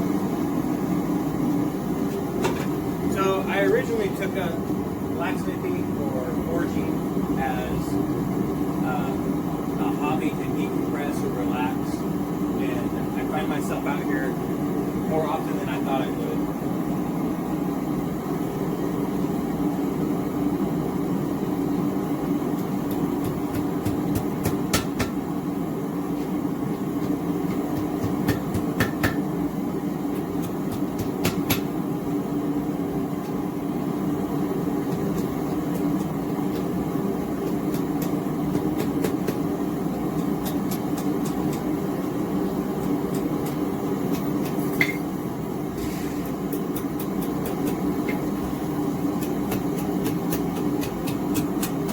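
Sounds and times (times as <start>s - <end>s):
gas forge burner roaring: 0.0s - 51.9s.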